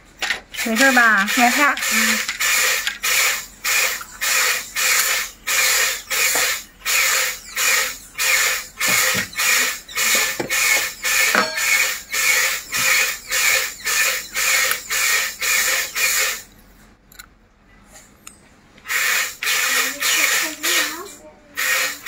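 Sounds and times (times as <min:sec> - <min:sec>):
dental suction pulsing hiss: 0:00.6 - 0:16.5, 0:18.9 - 0:22.0.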